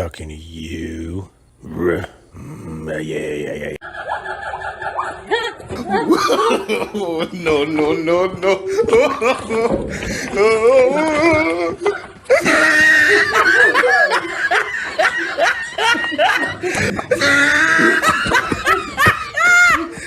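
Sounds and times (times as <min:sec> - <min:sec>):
loud human laughter: 0:03.8 - 0:20.0.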